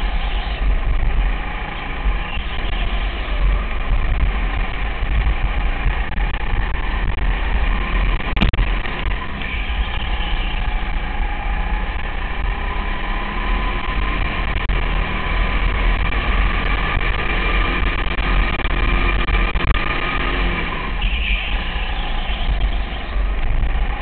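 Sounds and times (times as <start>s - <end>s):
wind rumble: 0.0s - 21.0s
kart engine racing: 0.0s - 24.0s.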